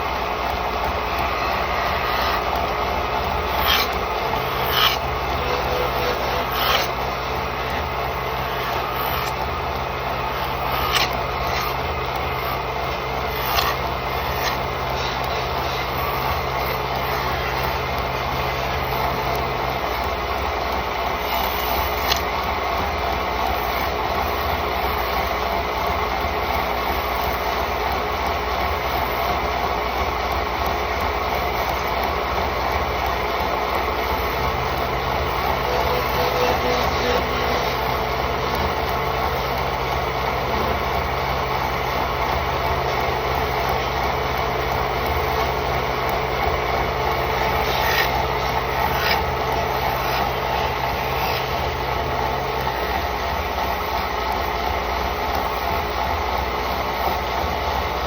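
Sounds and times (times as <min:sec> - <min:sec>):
wood lathe running: 0:00.0 - 0:58.0.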